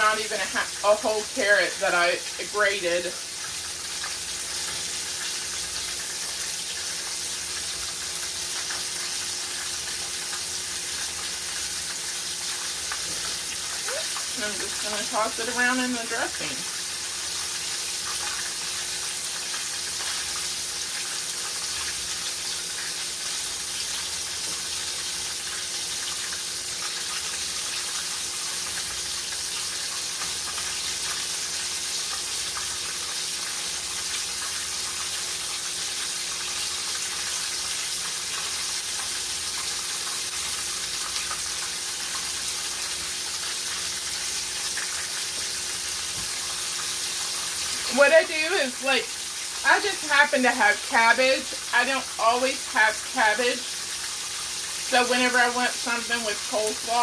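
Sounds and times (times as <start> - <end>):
chicken sizzling in a pan: 0.0 - 57.0.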